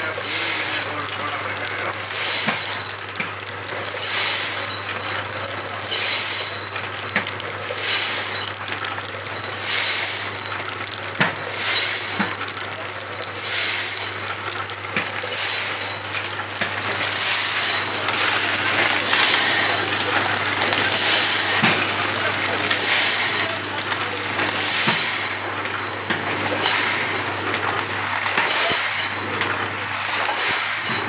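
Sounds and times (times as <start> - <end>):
machine hiss: 0.0 - 10.5, 11.2 - 14.4, 15.0 - 16.1, 16.8 - 21.8, 22.5 - 23.7, 24.4 - 25.4, 26.3 - 27.4, 28.2 - 29.3, 29.9 - 31.0
machine sharp clicks: 0.0 - 31.0
mechanical hum: 0.0 - 31.0.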